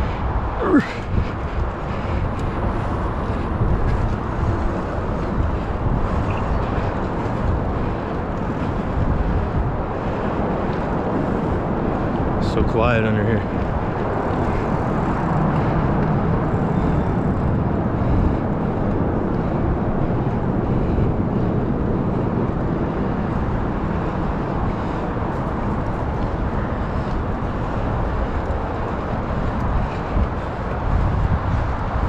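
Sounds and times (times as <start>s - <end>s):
bicycle tyres rolling on pavement: 0.0s - 32.0s
wind on microphone: 0.0s - 32.0s.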